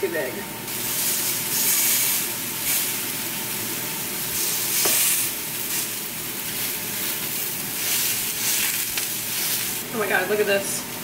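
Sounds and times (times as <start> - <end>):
patties sizzling in a pan: 0.7 - 11.0.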